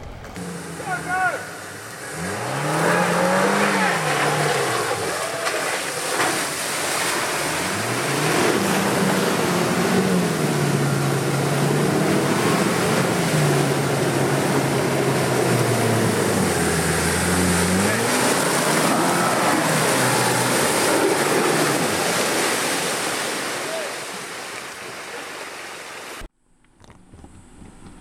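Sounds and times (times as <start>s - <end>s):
suv engine pulling hard: 0.0s - 23.8s
water surging and splashing: 0.4s - 26.3s.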